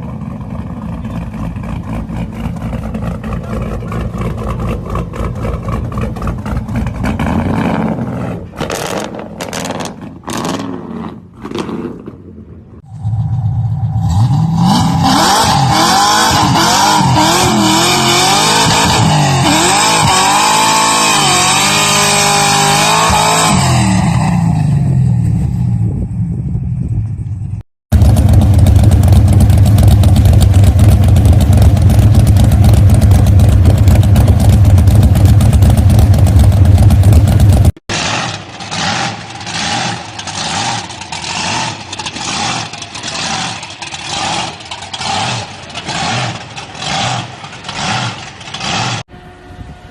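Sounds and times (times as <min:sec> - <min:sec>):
muscle car engine revving: 0:00.0 - 0:12.2, 0:12.8 - 0:25.0, 0:27.9 - 0:49.1.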